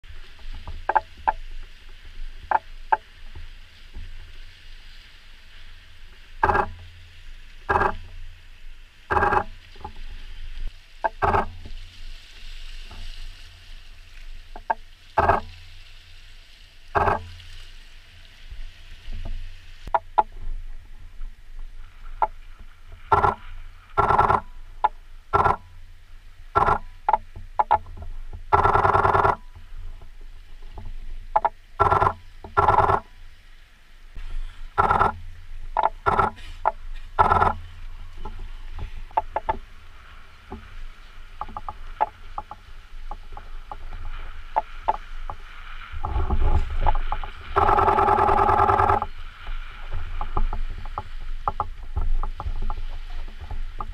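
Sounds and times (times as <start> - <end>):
waves washing against rocks: 0.0 - 27.8, 34.1 - 53.9.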